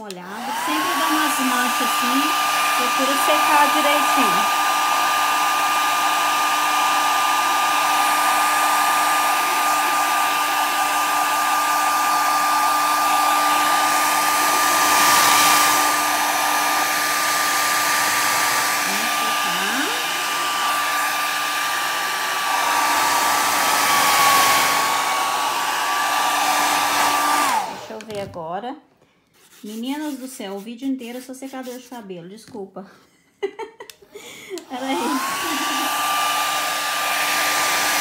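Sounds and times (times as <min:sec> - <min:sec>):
hair dryer running: 0:00.0 - 0:28.4, 0:33.5 - 0:38.0.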